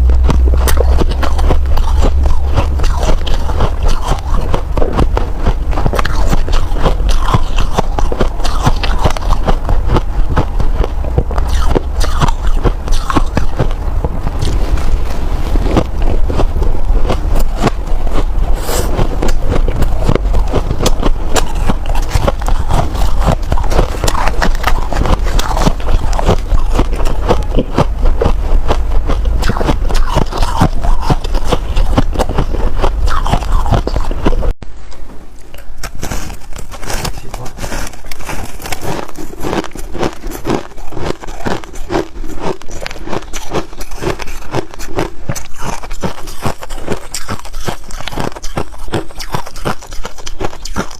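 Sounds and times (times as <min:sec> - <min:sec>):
person chewing frozen snow: 0:00.0 - 0:34.6, 0:35.4 - 0:50.9
low hum: 0:00.0 - 0:50.9.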